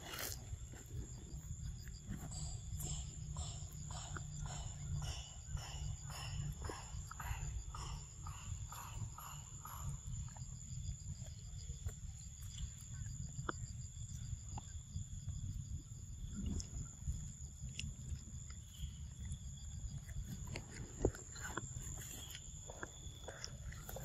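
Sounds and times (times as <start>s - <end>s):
insects chirring: 0.0s - 24.0s
soft clicks of monkeys eating: 0.1s - 24.0s.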